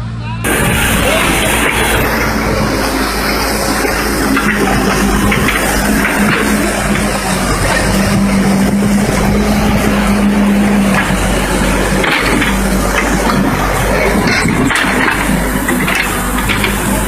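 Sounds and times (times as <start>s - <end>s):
constant hum: 0.0s - 17.0s
heavy machine engine rumble: 0.0s - 17.0s.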